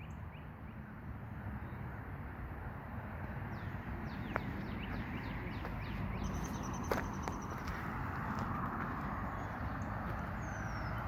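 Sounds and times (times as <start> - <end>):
birds chirping: 0.0 - 2.0, 3.2 - 11.0.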